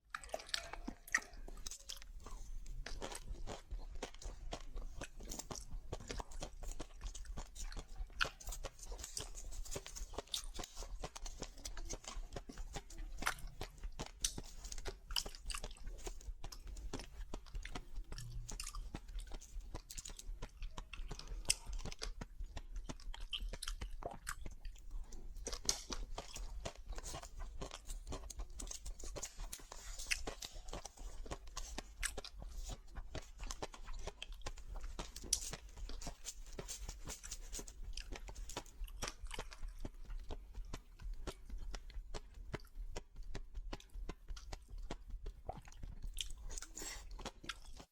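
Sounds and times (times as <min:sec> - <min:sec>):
crunchy food chewing: 0:00.1 - 0:47.9
wet mouth sounds: 0:00.1 - 0:47.9.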